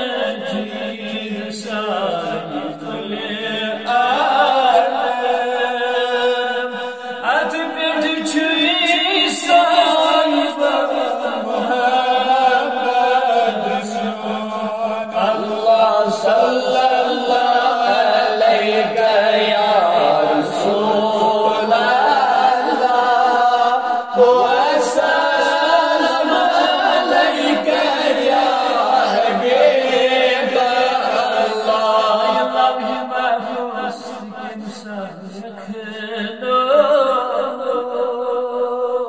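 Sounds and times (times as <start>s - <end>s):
man chanting melodically: 0.0s - 39.0s.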